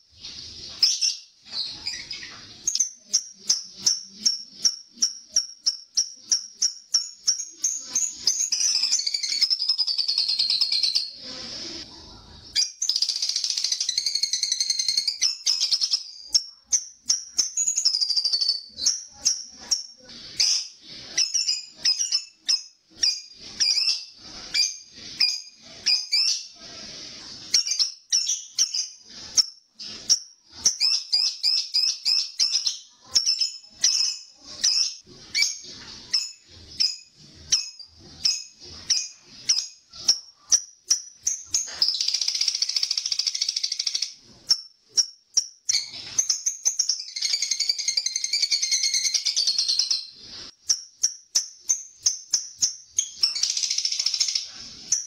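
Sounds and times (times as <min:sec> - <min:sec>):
lovebird chirping and shrieking: 0:00.0 - 0:11.8, 0:12.5 - 0:55.0.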